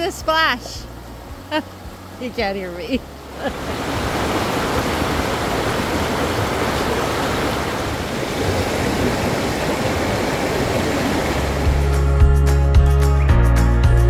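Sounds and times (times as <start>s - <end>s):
creek water rushing: 0.0s - 12.2s.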